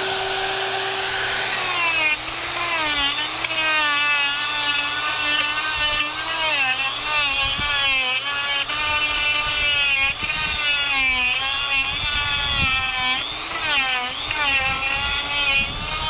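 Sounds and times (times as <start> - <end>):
die grinder carving wood: 0.0 - 16.0.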